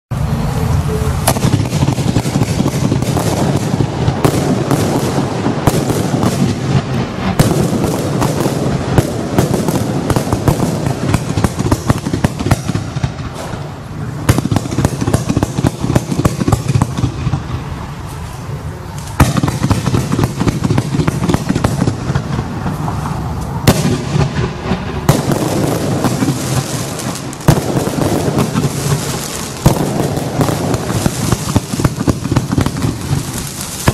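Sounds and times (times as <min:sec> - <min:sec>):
firework barrage: 0:00.1 - 0:33.9
loud firework bangs: 0:01.1 - 0:33.9.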